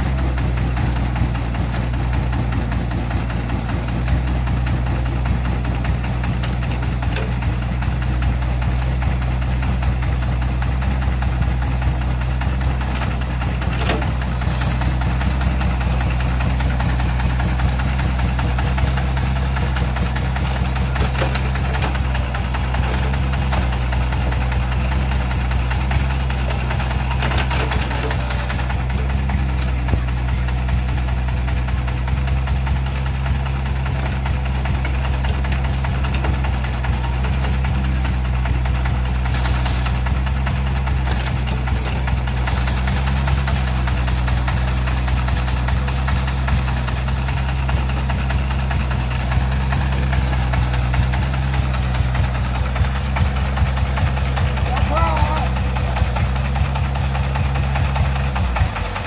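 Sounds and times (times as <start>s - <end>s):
mini excavator working: 0.0s - 59.0s
tractor diesel engine idling: 0.0s - 59.0s.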